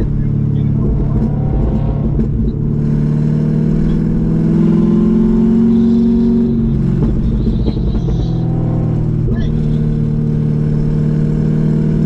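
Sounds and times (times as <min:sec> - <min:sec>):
loud car exhaust accelerating: 0:00.0 - 0:12.0.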